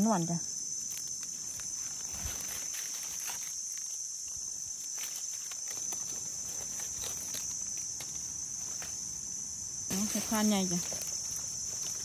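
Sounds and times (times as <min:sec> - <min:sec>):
insects droning: 0:00.0 - 0:12.0
dry leaves rustling: 0:00.7 - 0:12.0.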